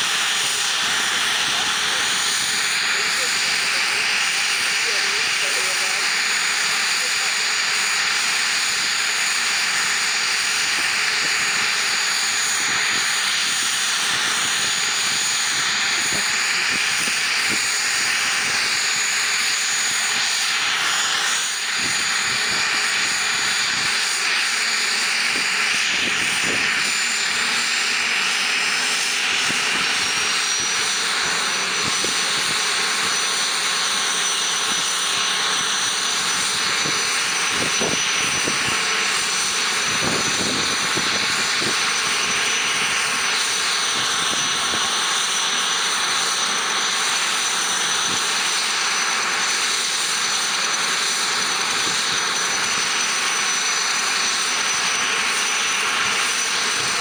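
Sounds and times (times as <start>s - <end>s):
helicopter turbine whine: 0.0s - 57.0s.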